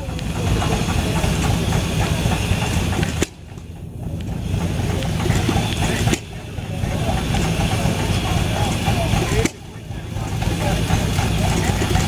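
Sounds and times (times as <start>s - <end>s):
small tractor engine running: 0.0s - 12.0s.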